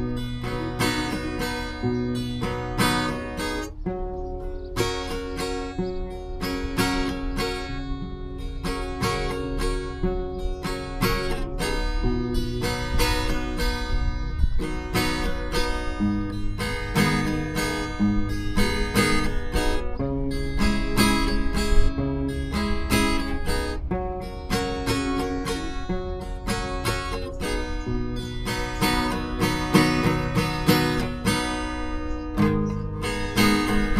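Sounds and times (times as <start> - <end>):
acoustic guitar music: 0.0 - 33.9.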